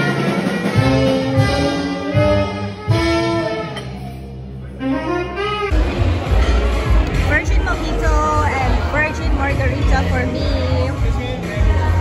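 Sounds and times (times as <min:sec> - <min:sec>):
live band with saxophone and brass: 0:00.0 - 0:12.0.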